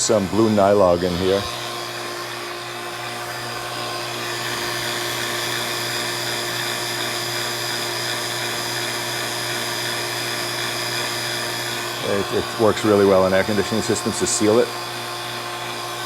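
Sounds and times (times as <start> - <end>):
vacuum pump motor humming: 0.0 - 16.0.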